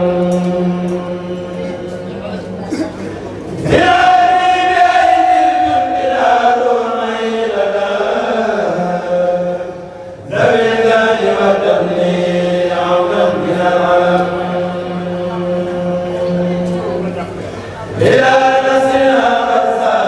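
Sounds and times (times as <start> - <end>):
group chanting in held notes: 0.0 - 20.0.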